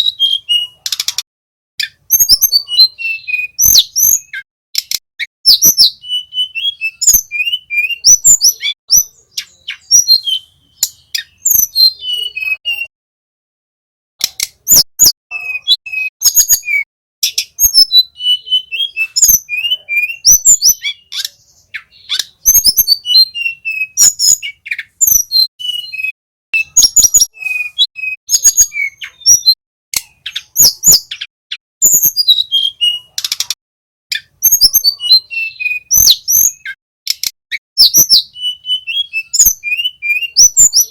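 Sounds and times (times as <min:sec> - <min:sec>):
bird whistled song and trills: 0:00.0 - 0:01.2, 0:01.8 - 0:12.9, 0:14.2 - 0:40.9.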